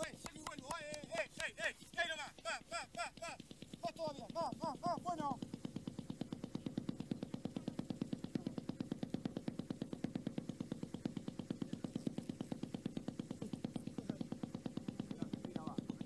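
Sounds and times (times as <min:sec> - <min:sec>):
motor running with rapid pulse: 0:00.0 - 0:16.0.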